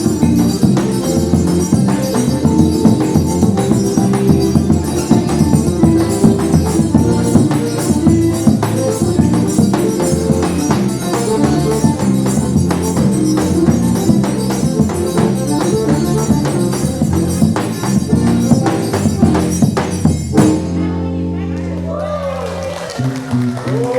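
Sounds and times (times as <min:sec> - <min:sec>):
drum beat: 0:00.0 - 0:20.8
accordion melody: 0:00.0 - 0:21.9.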